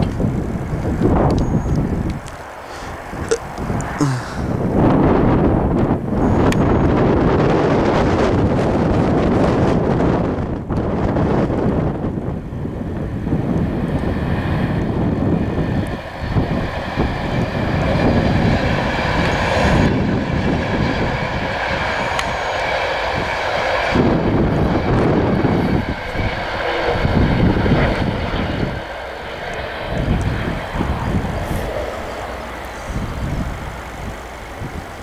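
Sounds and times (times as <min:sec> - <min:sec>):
high-speed train passing: 0:00.0 - 0:35.0
wheels rushing on rail: 0:00.0 - 0:35.0.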